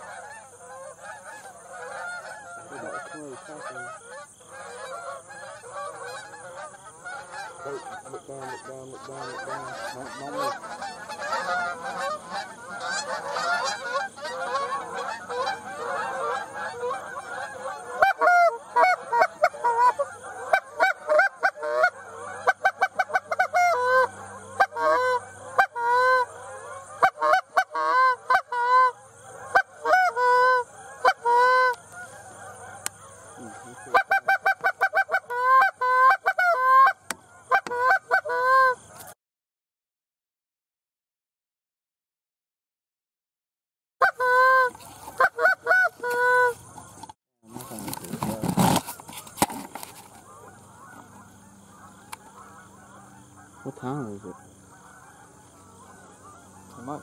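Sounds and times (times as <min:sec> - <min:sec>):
geese honking: 0:00.0 - 0:39.2, 0:44.0 - 0:57.0.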